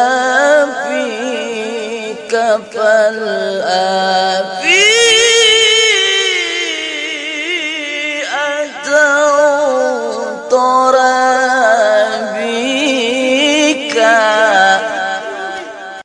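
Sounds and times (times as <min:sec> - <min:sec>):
person singing ornamented recitation: 0:00.0 - 0:16.0.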